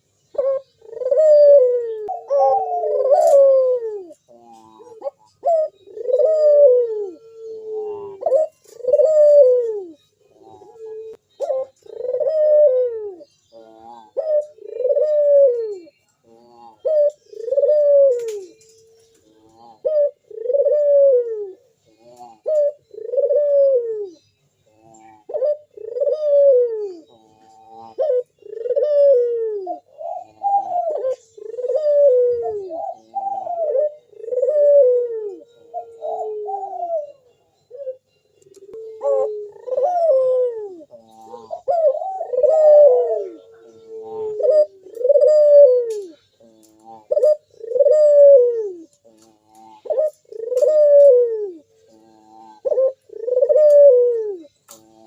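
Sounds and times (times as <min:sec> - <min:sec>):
dove cooing: 0:00.0 - 0:55.0
higher dove cooing: 0:00.3 - 0:24.2, 0:24.8 - 0:55.0.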